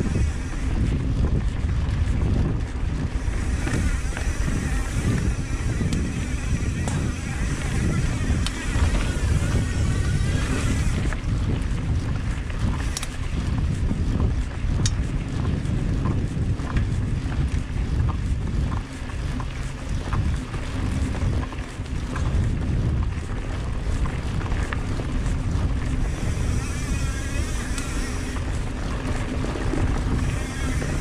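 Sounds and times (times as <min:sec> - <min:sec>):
bike clicks and rattles: 0:00.0 - 0:31.0
tyres rumbling over dirt and rock: 0:00.0 - 0:31.0
wind rushing over microphone: 0:00.0 - 0:31.0.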